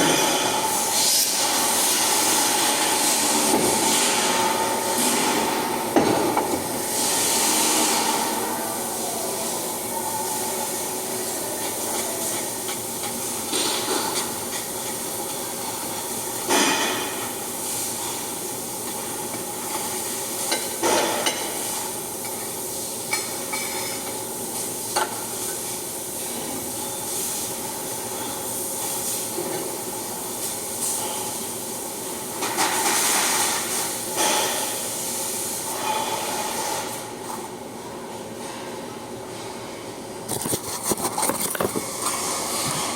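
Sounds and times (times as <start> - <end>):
welding arc sizzling and hissing: 0.0 - 37.6, 40.3 - 42.9.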